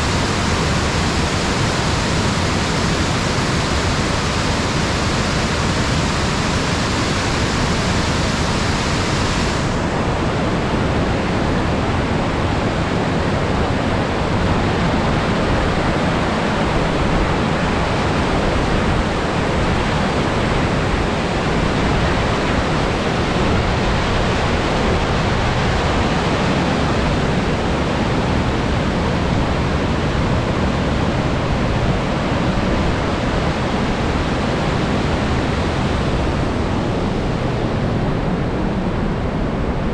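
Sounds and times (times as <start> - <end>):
waterfall rushing: 0.0 - 36.6.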